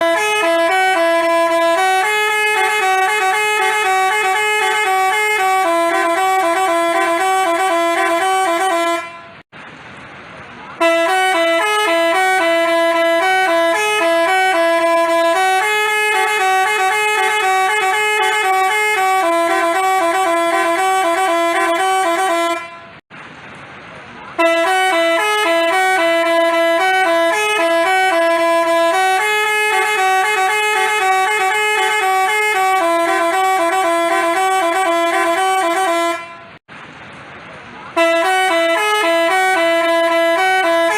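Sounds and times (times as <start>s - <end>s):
multi-tone bus horn melody: 0.0s - 9.5s, 10.7s - 23.0s, 24.3s - 36.7s, 37.9s - 40.9s.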